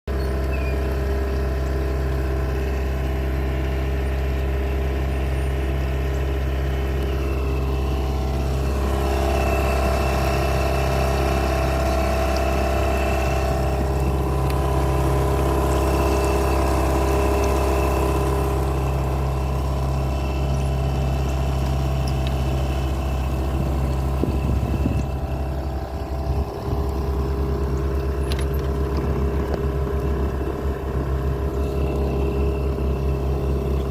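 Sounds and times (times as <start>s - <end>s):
engine running steadily: 0.1s - 33.9s.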